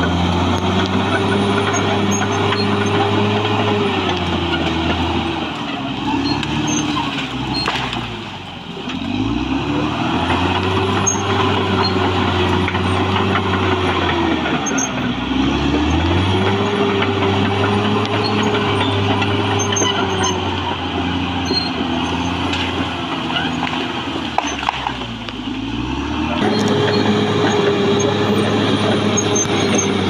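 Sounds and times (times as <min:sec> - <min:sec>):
bulldozer diesel engine under load: 0:00.0 - 0:30.0.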